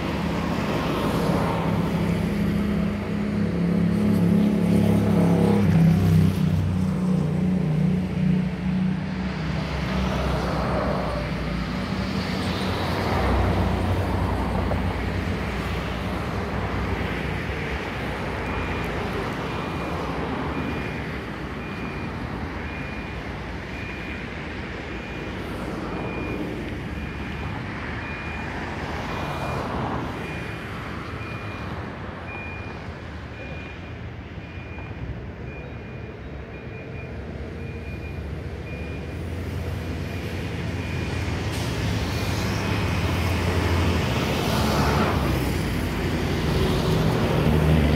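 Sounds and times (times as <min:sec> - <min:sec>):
vehicles passing: 0:00.0 - 0:47.9.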